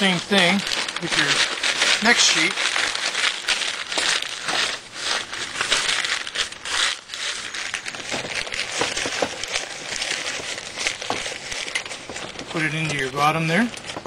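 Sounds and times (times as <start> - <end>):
paper crumpling and crinkling: 0.0 - 14.0.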